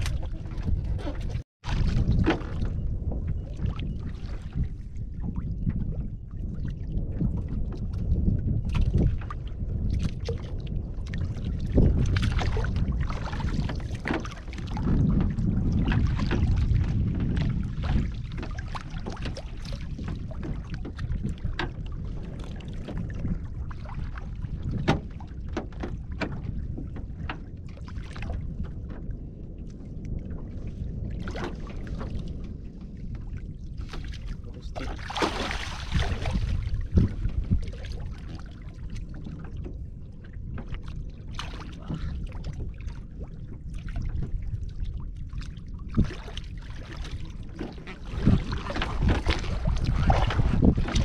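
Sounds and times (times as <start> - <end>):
water slapping boat hull: 0.0 - 51.0
wind buffeting microphone: 0.0 - 51.0.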